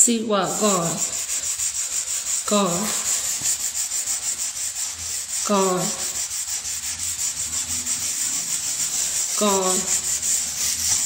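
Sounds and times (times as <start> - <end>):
scrubbing floor by hand: 0.3 - 11.0.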